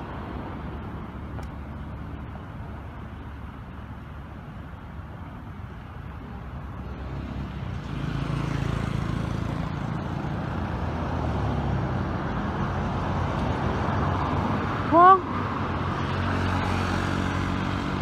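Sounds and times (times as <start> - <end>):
motor vehicle rumbling: 0.0 - 18.0.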